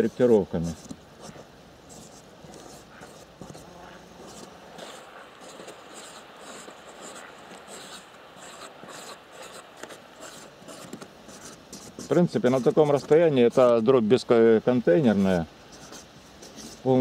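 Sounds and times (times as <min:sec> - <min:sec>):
marker scratching on cardboard: 0:00.0 - 0:13.7, 0:15.7 - 0:16.8.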